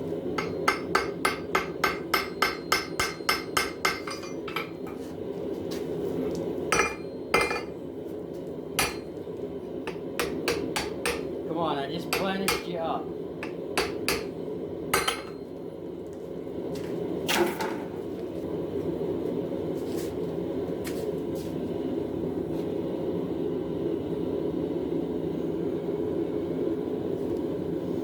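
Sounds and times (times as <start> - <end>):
forge burner rushing: 0.0 - 28.0.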